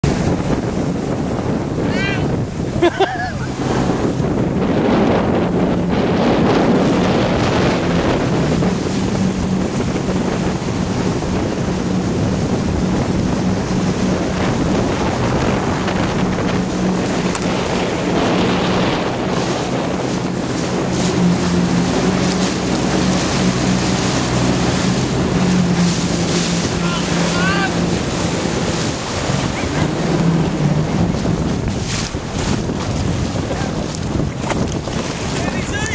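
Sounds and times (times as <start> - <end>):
jet ski engine running: 0.0 - 35.9
water splashing against hull: 0.0 - 35.9
wind buffeting microphone: 0.0 - 35.9.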